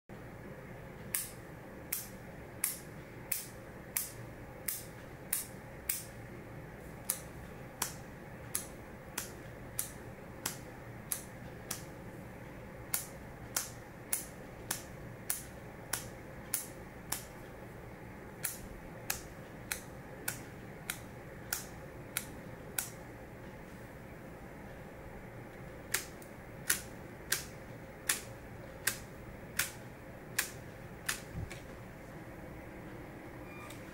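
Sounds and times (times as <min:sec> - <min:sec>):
faint hum: 0:00.1 - 0:33.9.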